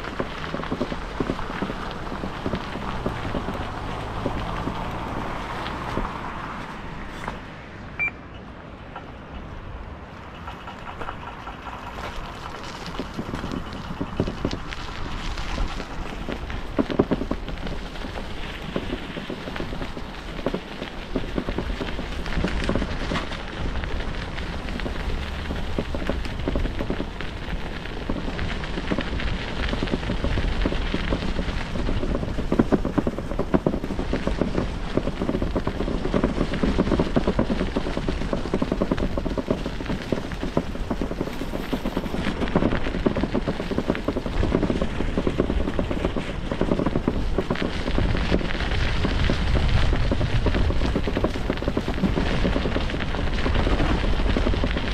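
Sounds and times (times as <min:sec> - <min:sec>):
bicycle tyres crackling on path: 0:00.0 - 0:08.2, 0:08.9 - 0:54.9
wind rumble on microphone: 0:00.0 - 0:54.9.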